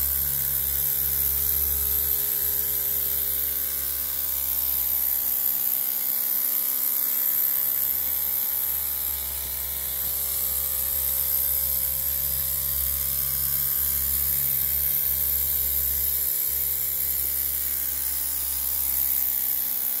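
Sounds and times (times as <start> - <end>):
small steam engine buzzing: 0.0 - 20.0.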